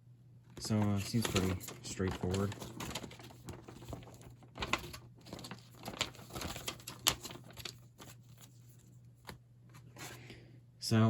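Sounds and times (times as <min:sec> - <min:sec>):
paper and packaging rustling: 0:00.6 - 0:10.3.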